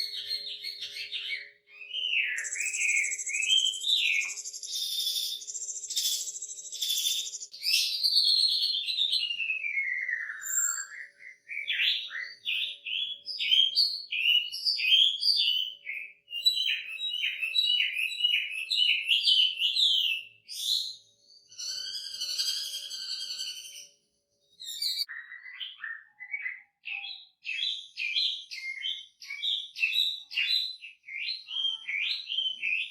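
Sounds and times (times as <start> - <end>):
bird singing loudly: 0.0 - 24.0, 24.6 - 32.9.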